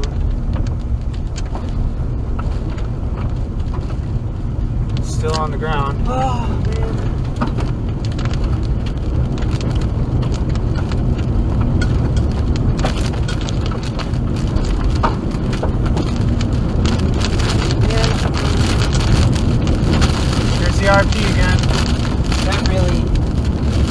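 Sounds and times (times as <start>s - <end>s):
rain pelting a car: 0.0s - 23.9s
road and wind rumble: 0.0s - 23.9s.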